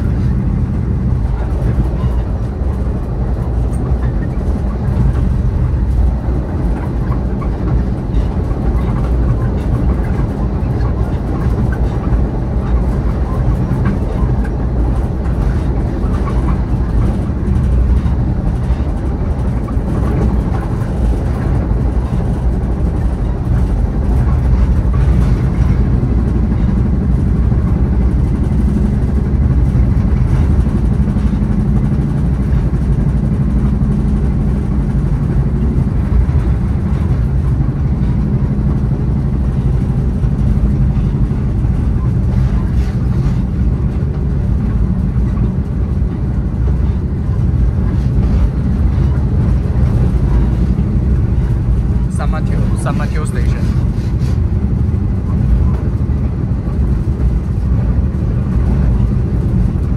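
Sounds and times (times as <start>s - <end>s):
train rumble and drone: 0.0s - 59.9s.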